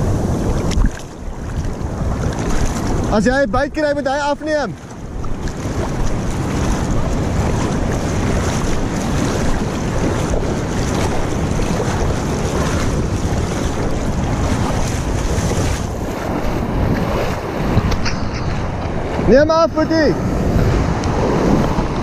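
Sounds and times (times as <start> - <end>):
shallow surf washing: 0.0 - 22.0
wind buffeting microphone: 0.0 - 22.0.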